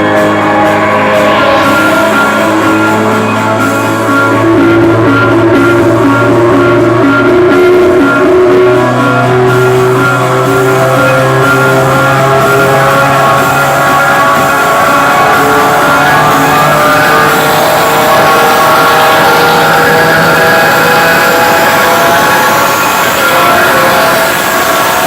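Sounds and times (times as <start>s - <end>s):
guitar rock music on car stereo: 0.0s - 25.0s.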